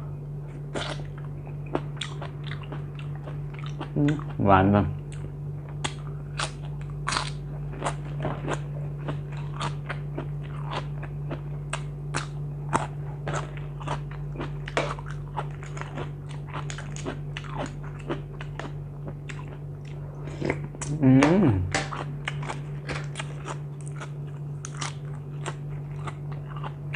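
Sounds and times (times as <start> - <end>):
steady low hum: 0.0 - 26.9
chewing crunchy vegetables: 0.4 - 26.9.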